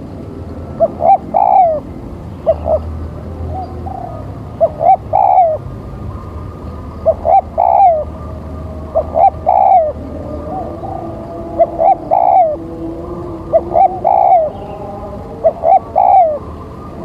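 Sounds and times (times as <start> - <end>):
dove cooing: 0.7 - 17.0.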